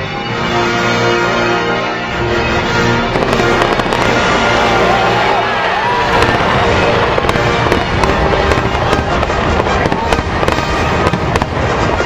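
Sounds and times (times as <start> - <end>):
music playing: 0.0 - 12.0
fireworks exploding and crackling: 2.3 - 12.0.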